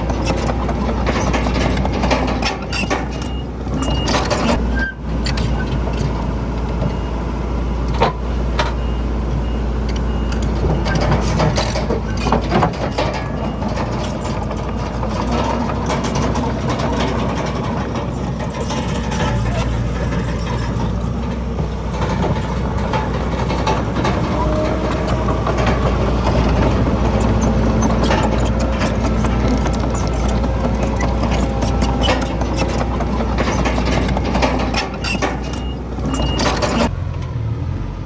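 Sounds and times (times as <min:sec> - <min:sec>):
metallic clanks and knocks: 0:00.0 - 0:04.6, 0:07.9 - 0:37.3
bulldozer diesel engine running: 0:00.0 - 0:38.0.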